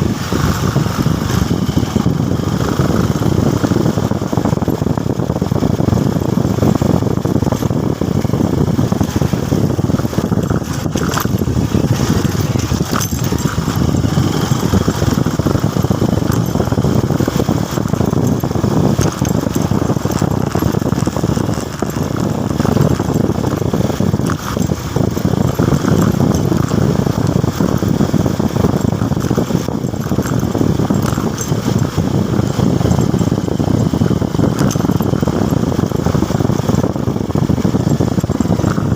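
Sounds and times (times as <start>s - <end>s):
motorcycle engine: 0.0s - 38.9s
road noise: 0.0s - 38.9s.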